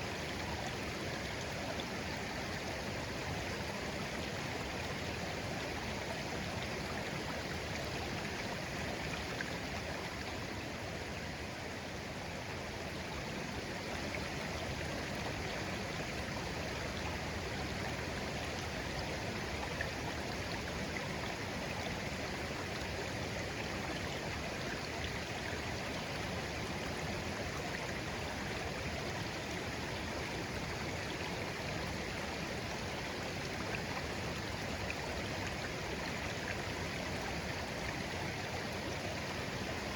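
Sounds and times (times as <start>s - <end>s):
shallow stream babbling: 0.0s - 39.9s.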